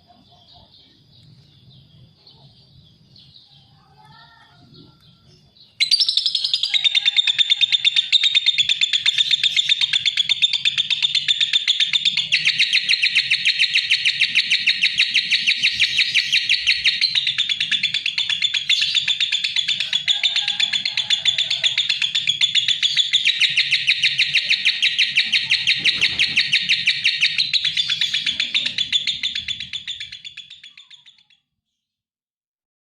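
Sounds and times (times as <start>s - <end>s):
bird chirping and trilling: 0.0s - 31.6s.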